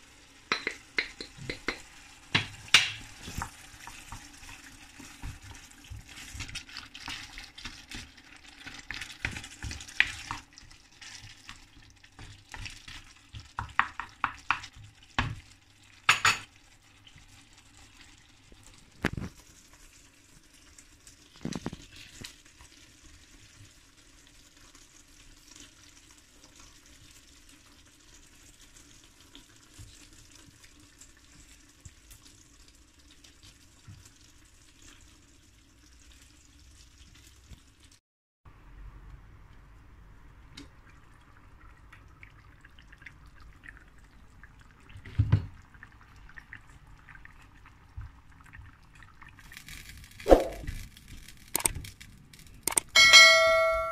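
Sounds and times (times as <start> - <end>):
sauce bubbling: 0.0 - 37.8, 40.7 - 52.7.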